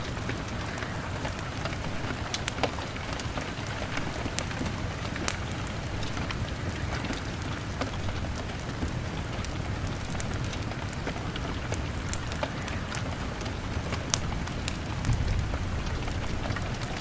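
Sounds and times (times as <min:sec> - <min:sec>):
fire crackling and popping: 0:00.0 - 0:17.0
rain on a window: 0:00.0 - 0:17.0.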